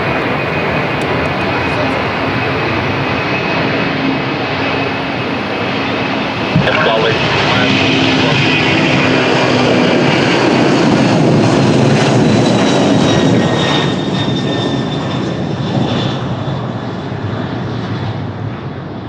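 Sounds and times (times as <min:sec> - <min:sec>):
jet engines rumbling and whining: 0:00.0 - 0:15.7.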